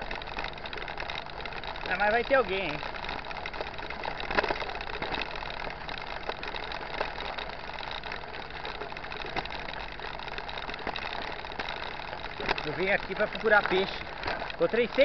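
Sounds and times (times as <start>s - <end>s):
bike tyres on gravel: 0.0s - 15.0s
small clicks and knocks: 0.0s - 15.0s.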